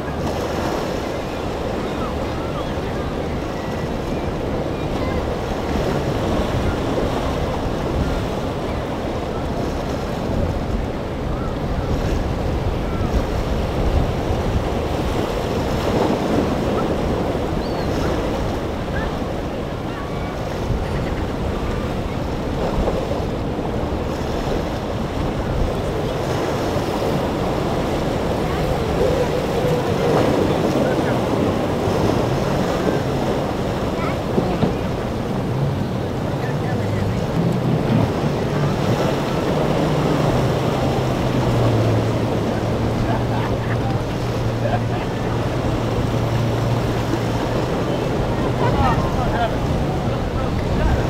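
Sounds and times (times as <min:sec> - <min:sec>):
breaking waves: 0:00.0 - 0:51.0
wind gusting across microphone: 0:00.0 - 0:51.0.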